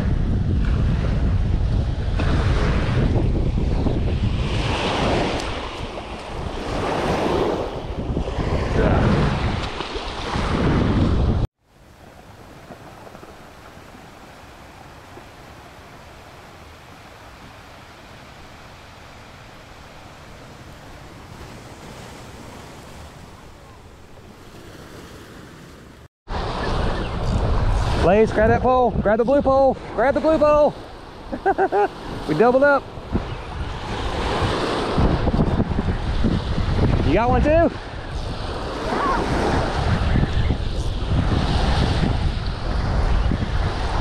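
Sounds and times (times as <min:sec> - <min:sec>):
wind buffeting microphone: 0:00.0 - 0:24.3, 0:26.3 - 0:31.3, 0:32.0 - 0:44.0
small waves breaking on beach: 0:04.1 - 0:28.2, 0:29.8 - 0:44.0.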